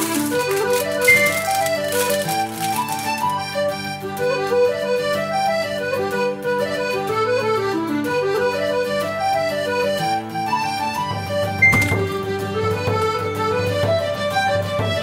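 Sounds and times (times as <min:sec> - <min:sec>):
solo accordion melody: 0:00.0 - 0:15.0.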